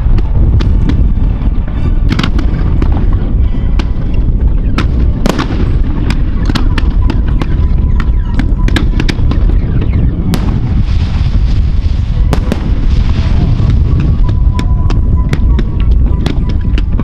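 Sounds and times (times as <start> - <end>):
fireworks cracks and bangs: 0.0 - 17.0
low rumble: 0.0 - 17.0.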